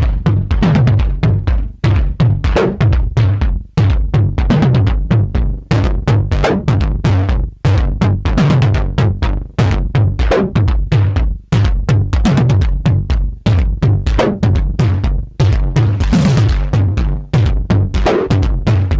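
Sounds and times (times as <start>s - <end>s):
synthesized kick drums: 0.0s - 18.9s.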